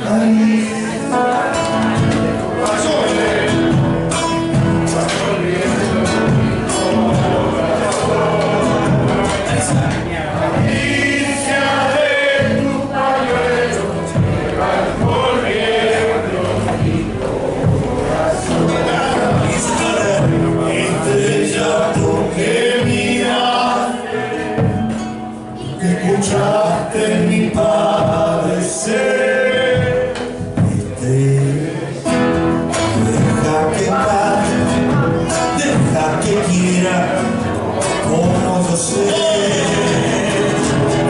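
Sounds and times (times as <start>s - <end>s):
men singing together: 0.0s - 32.2s, 32.8s - 41.0s
instrumental accompaniment: 0.2s - 41.0s.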